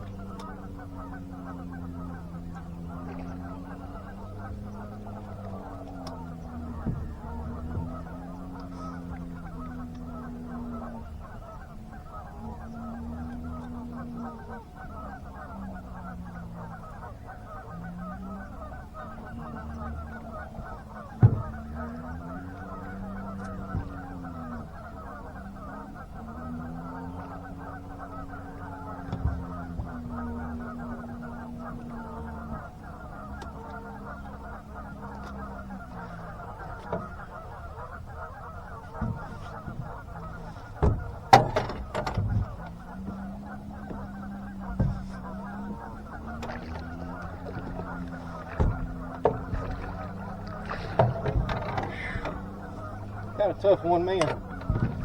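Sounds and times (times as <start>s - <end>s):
low motor hum: 0.0s - 55.0s.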